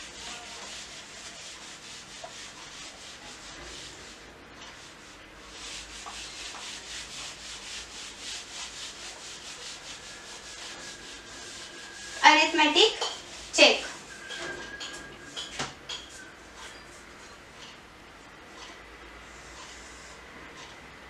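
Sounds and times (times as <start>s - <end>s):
duster wiping whiteboard: 0.0s - 17.0s.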